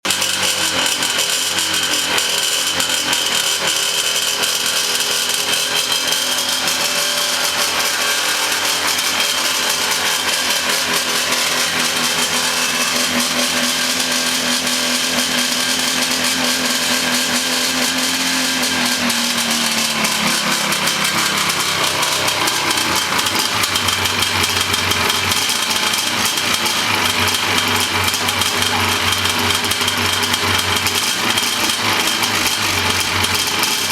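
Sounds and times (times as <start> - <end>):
snowmobile engine idling: 0.0 - 33.9.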